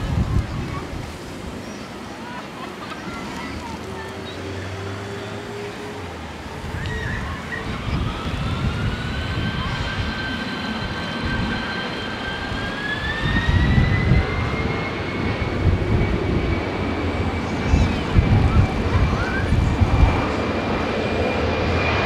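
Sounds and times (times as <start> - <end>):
wind buffeting microphone: 0.0 - 2.0, 6.0 - 22.0
airliner engines whining: 0.0 - 22.0.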